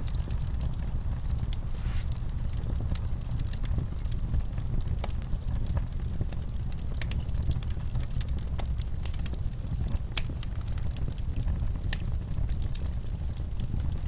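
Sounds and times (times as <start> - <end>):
low rumble of burning logs: 0.0 - 14.0
wood fire crackling and popping: 0.0 - 14.0.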